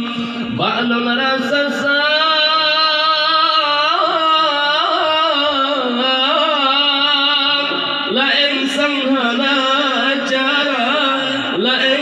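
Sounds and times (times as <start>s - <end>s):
man singing long held note: 0.0s - 12.0s.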